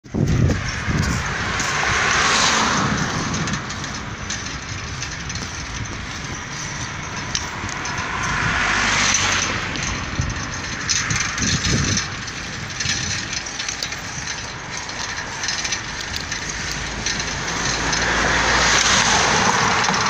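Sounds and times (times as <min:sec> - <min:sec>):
low rumble: 0:00.0 - 0:20.0
road traffic passing: 0:00.0 - 0:20.0.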